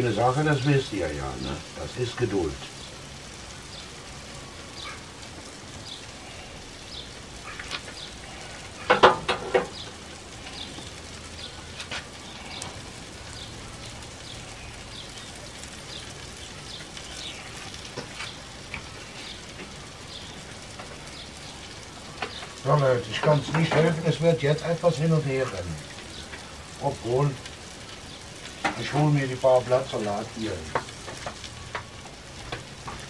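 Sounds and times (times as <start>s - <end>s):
vegetables sizzling on a griddle: 0.0s - 33.0s
small pops and crackles: 2.6s - 33.0s.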